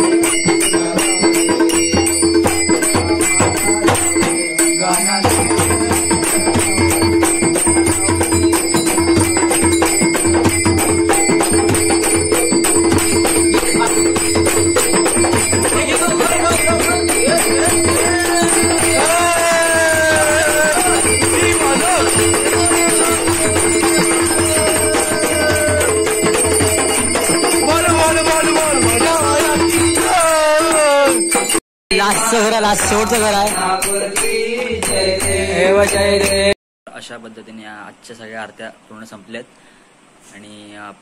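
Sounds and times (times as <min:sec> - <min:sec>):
hand cymbals clashing: 0:00.0 - 0:36.5
steady held tone: 0:00.0 - 0:36.5
hand drums fast rhythm: 0:00.0 - 0:36.6.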